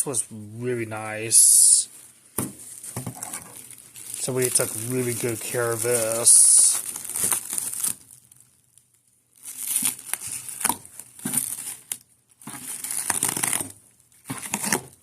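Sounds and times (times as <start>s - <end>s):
packaging crinkling and tearing: 1.5s - 15.0s.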